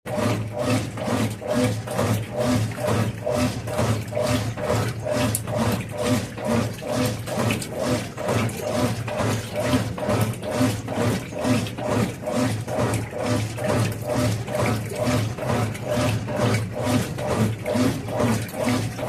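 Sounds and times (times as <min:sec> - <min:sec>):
water sloshing in washing machine: 0:00.0 - 0:19.0
motor hum: 0:00.1 - 0:19.0.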